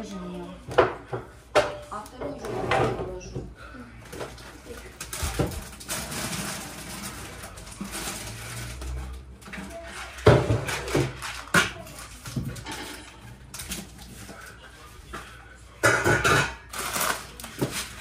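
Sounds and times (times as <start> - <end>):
groceries clattering in cupboards: 0.0 - 18.0.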